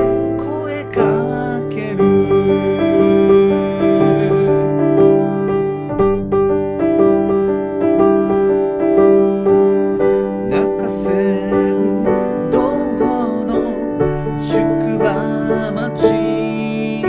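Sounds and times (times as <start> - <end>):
piano repeated chords: 0.0 - 17.0.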